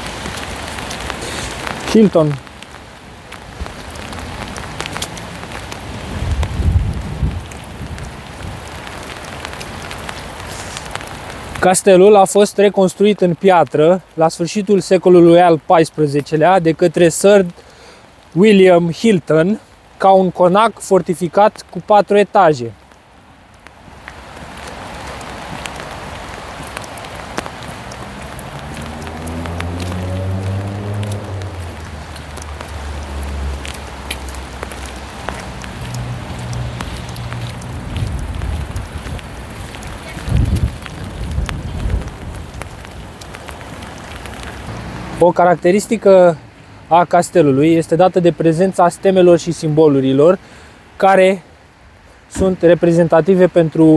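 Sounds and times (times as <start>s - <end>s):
raindrops ticking near microphone: 0.0s - 53.9s
steady rain: 0.0s - 53.9s.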